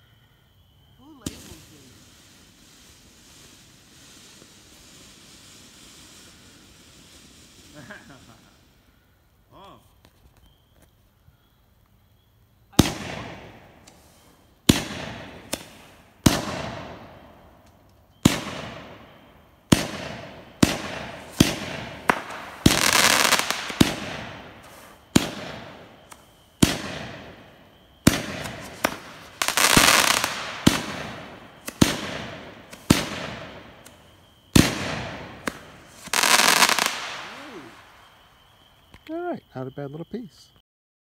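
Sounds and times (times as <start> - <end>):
firework crackling hiss: 0.8 - 39.8
firework bangs: 1.0 - 8.8, 12.7 - 39.1.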